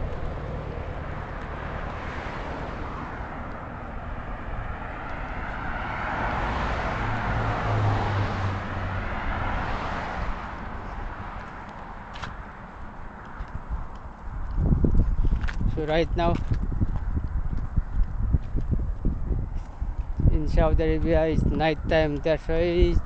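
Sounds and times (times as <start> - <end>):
highway traffic rushing: 0.0 - 23.0
vehicle passing with low hum: 0.0 - 23.0.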